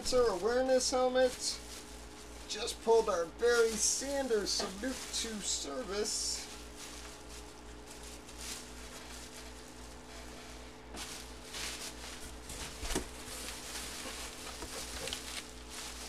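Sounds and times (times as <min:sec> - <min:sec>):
bubble wrap crinkling: 0:00.0 - 0:16.0
low steady hum: 0:00.0 - 0:16.0.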